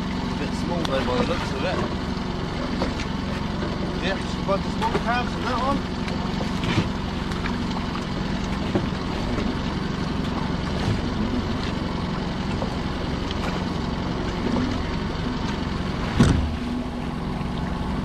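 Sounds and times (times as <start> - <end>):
boat motor idling: 0.0 - 18.0.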